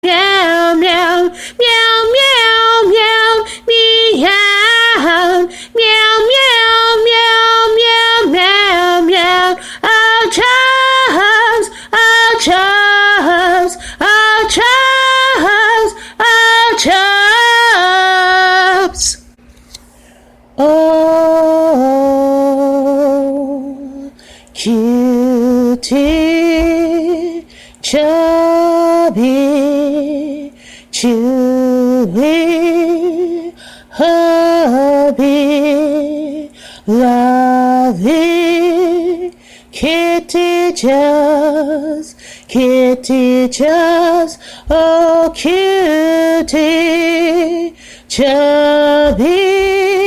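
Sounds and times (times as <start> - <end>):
woman singing with vibrato: 0.0 - 19.4, 20.6 - 50.0.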